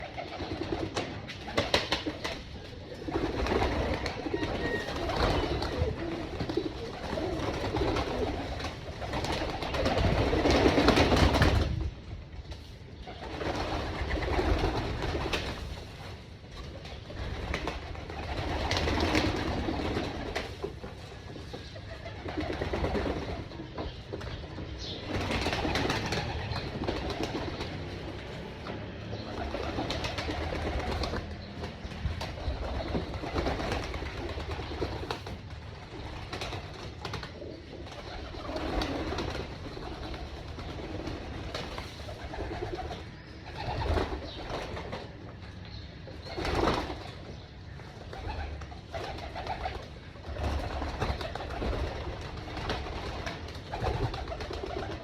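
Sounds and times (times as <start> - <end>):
pigeons cooing: 0.0 - 11.6, 13.0 - 45.3, 46.0 - 55.0
birds bursts of activity: 0.0 - 55.0.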